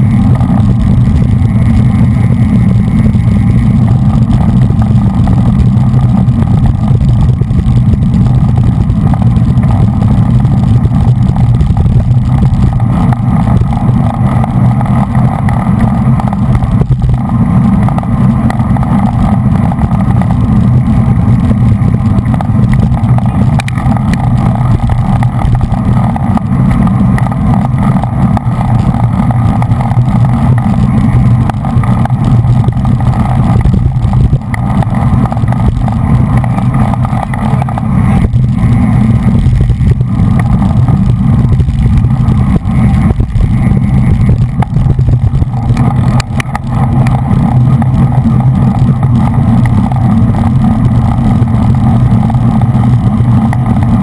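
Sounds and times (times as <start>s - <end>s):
road rumble: 0.0s - 54.0s
wind on microphone: 0.0s - 54.0s.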